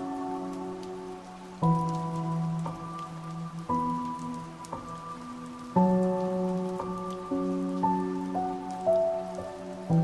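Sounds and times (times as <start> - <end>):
falling rain: 0.0 - 10.0
soft piano chords: 0.0 - 10.0.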